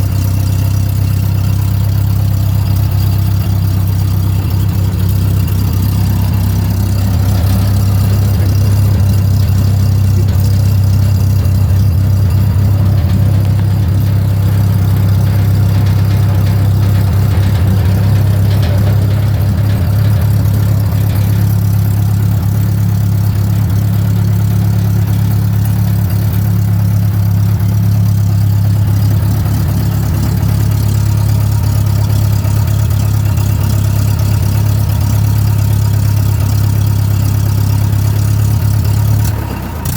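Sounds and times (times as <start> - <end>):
pump engine running: 0.0 - 39.9.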